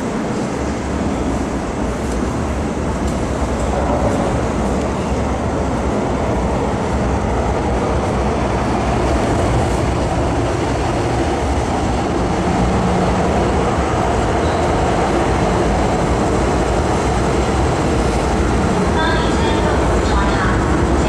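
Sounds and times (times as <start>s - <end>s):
metro train rumbling past: 0.0s - 21.0s.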